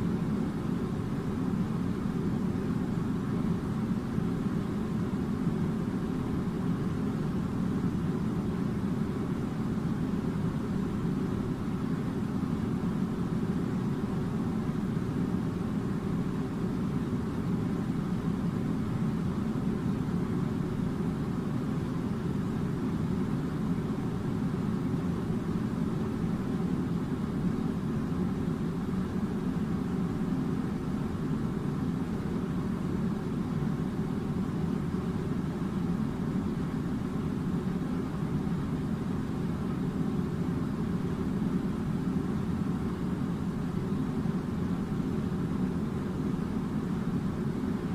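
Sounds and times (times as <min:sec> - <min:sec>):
air conditioning unit humming: 0:00.0 - 0:47.9.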